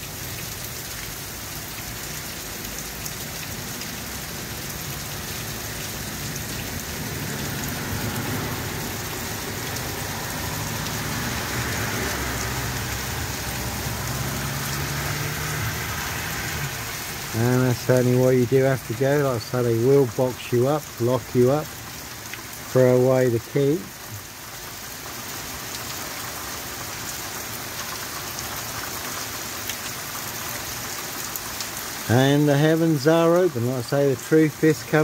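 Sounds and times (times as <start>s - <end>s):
car driving through water: 0.0s - 35.0s
heavy rain on road: 0.0s - 35.0s.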